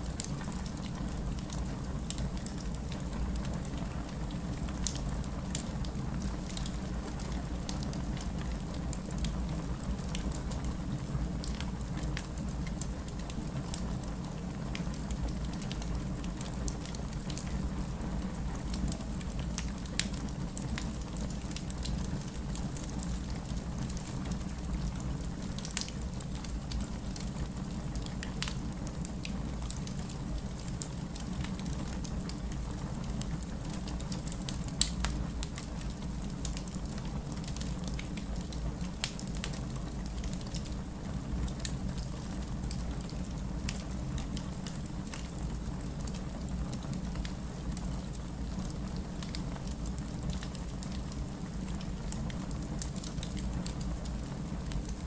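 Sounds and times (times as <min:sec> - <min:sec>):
fire crackling and popping: 0:00.0 - 0:55.0
wood fire burning: 0:00.0 - 0:55.0.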